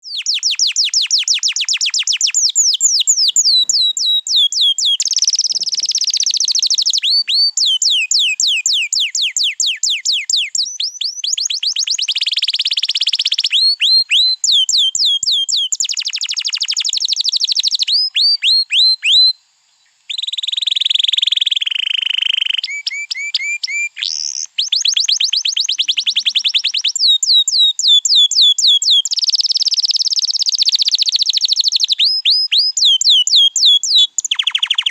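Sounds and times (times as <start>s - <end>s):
canary singing trilled song: 0.0s - 19.4s, 20.1s - 34.9s.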